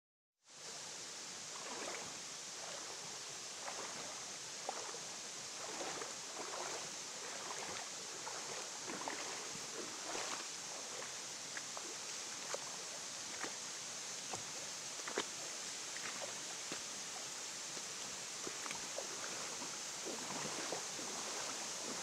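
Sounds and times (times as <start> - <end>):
creek water babbling over rocks: 0.8 - 22.0.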